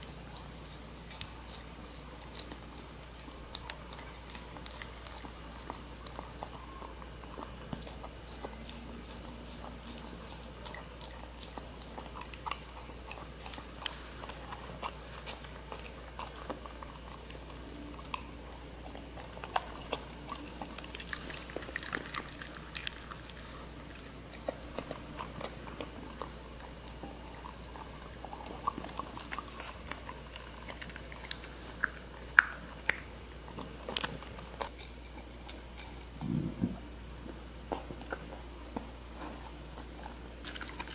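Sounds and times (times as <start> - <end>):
dog licking and chewing: 0.0 - 40.9.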